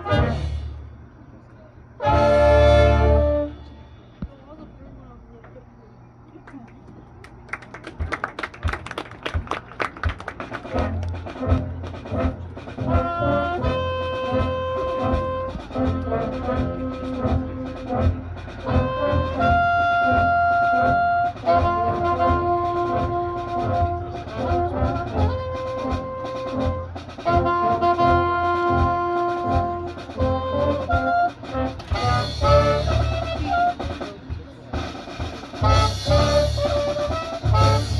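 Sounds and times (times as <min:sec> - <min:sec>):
brass band held chords: 0:00.0 - 0:00.9, 0:02.0 - 0:04.1, 0:10.5 - 0:37.9.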